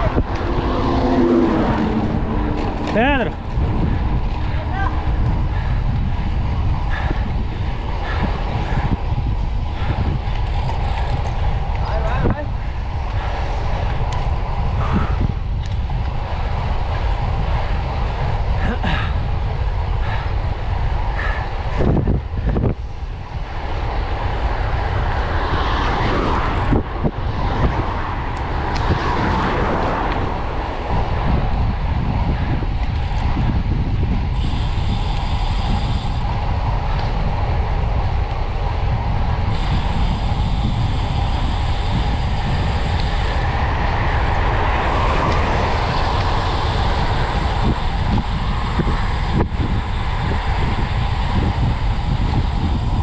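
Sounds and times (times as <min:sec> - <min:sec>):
road noise from bike: 0:00.0 - 0:53.0
wind rumble: 0:00.0 - 0:53.0.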